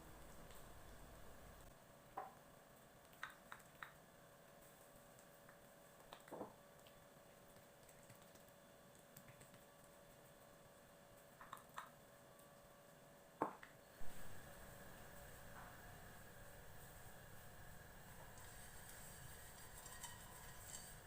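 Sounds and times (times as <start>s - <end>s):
soft steady hiss: 0.0s - 21.0s.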